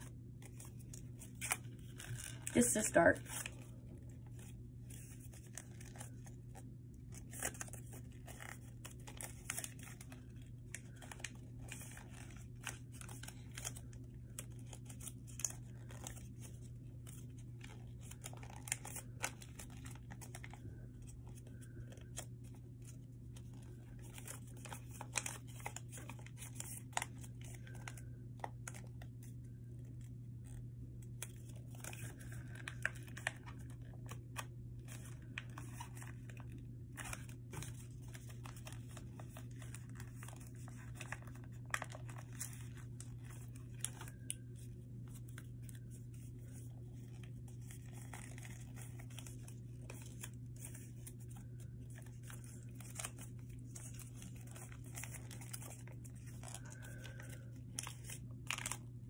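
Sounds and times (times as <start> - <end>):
paper crinkling and rustling: 0.0 - 59.0.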